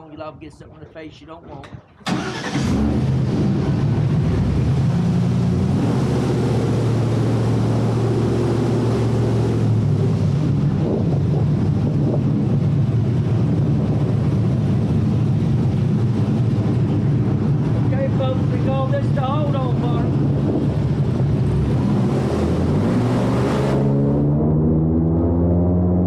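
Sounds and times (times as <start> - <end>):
wind noise on microphone: 0.0 - 26.0
airboat engine and propeller: 2.0 - 26.0.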